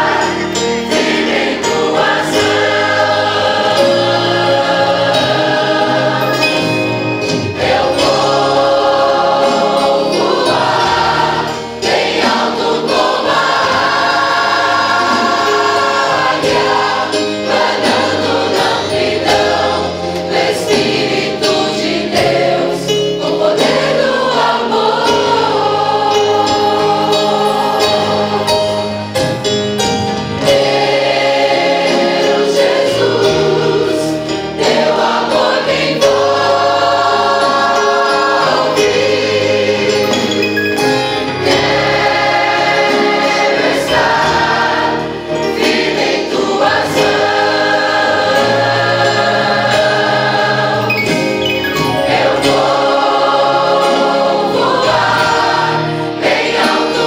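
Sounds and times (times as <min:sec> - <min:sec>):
choir singing gospel song: 0:00.0 - 0:29.4, 0:30.2 - 0:57.0.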